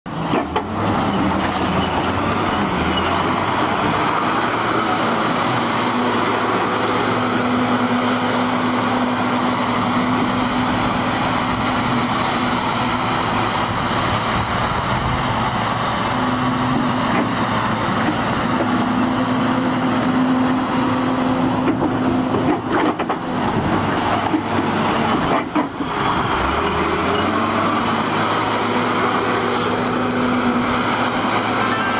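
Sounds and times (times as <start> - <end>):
diesel engine revving: 0.1 - 31.9.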